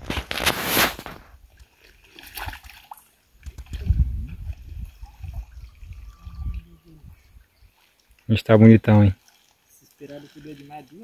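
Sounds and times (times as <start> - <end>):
muddy water sloshing and splashing: 0.0 - 11.0.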